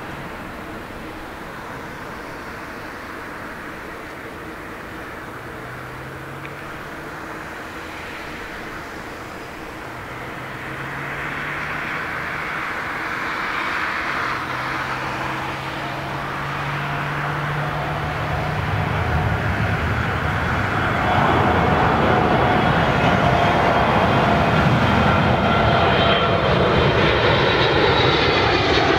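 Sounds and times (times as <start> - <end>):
jet airliner engines roaring: 0.0 - 28.9.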